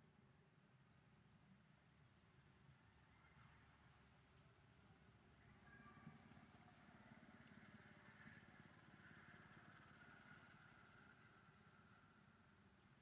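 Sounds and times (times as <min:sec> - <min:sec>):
faint vehicle engine hum: 0:00.9 - 0:13.0.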